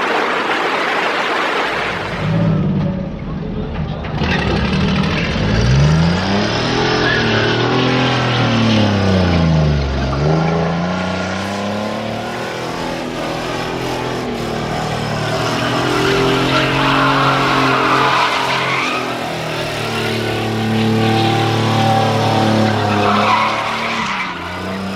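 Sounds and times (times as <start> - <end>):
car engine revving: 1.7 - 24.9.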